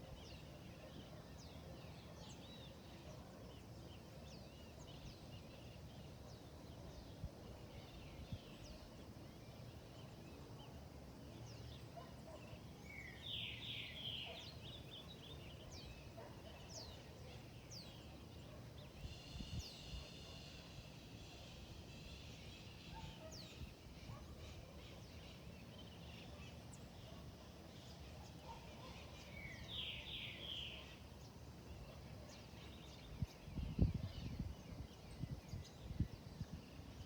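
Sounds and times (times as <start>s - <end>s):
wild birds chirping: 0.0s - 37.0s.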